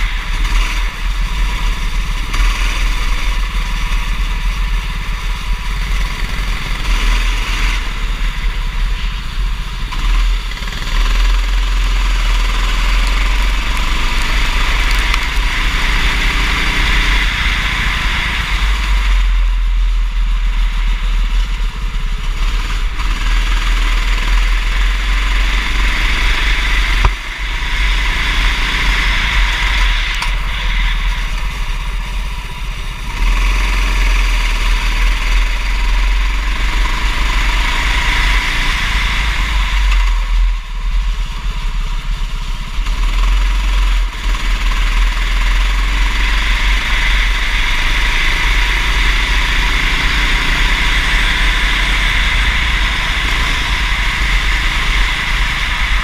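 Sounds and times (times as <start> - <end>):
heavy low rumble: 0.0 - 56.0
kart engine revving: 0.0 - 56.0.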